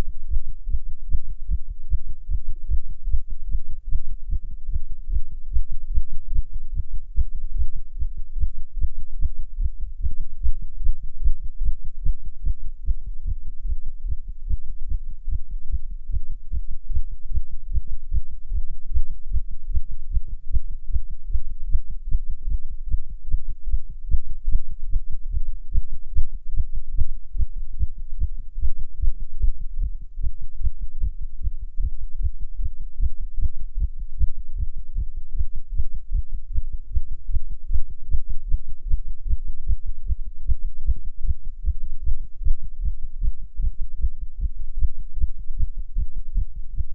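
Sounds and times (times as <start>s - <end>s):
fast heartbeat: 0.0s - 46.9s.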